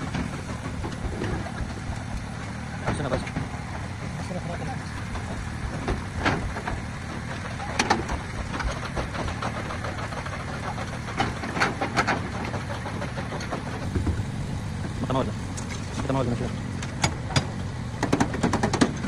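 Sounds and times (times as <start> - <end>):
sharp knocks and clicks: 0.0 - 4.3, 5.0 - 14.2, 16.8 - 19.0
engine idling: 0.0 - 19.0.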